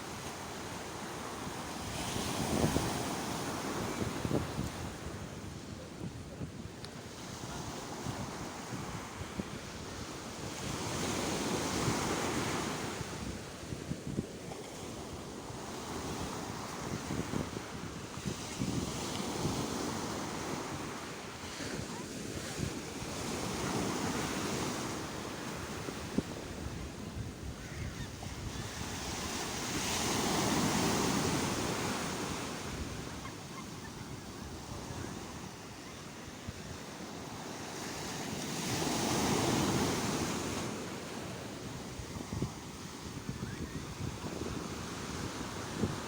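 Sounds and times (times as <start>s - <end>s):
sea waves breaking on shore: 0.0s - 46.0s
wind on microphone: 0.0s - 46.0s.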